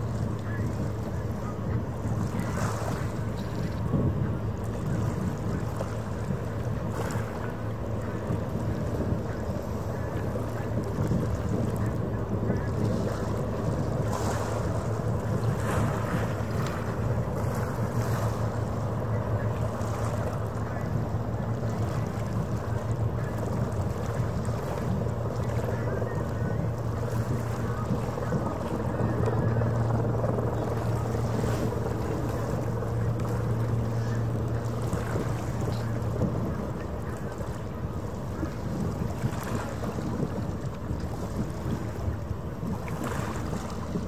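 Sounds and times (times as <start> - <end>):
ferry engine drone: 0.0 - 44.0
wind and water rush: 0.0 - 44.0.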